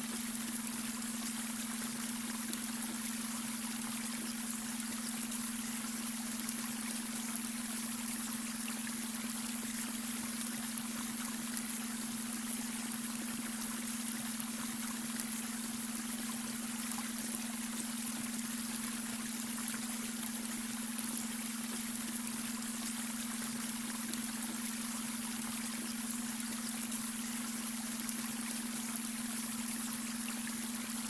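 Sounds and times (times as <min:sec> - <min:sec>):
brook water trickling: 0:00.0 - 0:31.0.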